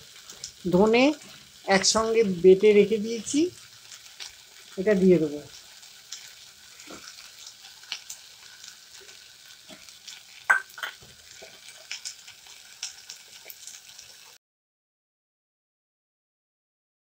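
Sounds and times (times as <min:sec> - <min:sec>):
masala sizzling in pot: 0:00.0 - 0:14.4.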